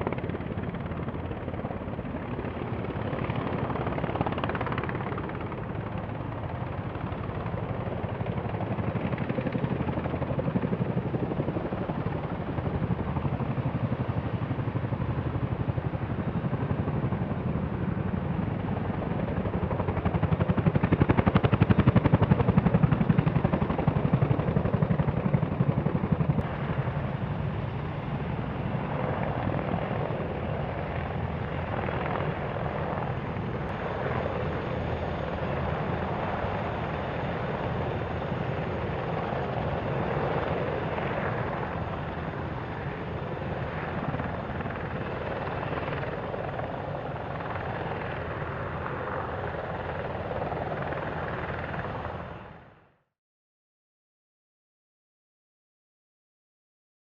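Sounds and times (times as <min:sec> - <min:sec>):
helicopter rotor beat: 0:00.0 - 0:52.9
helicopter turbines: 0:00.0 - 0:53.0.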